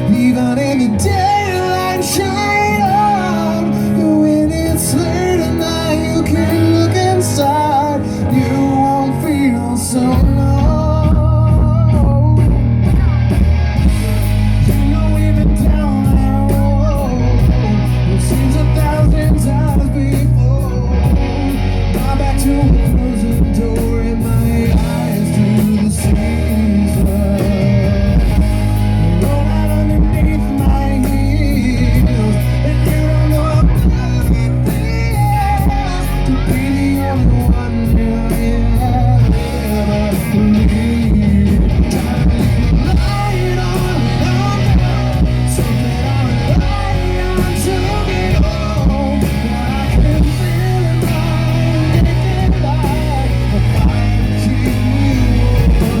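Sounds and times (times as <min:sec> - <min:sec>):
electric guitar: 0:00.0 - 0:56.0
live rock band playing: 0:00.0 - 0:56.0.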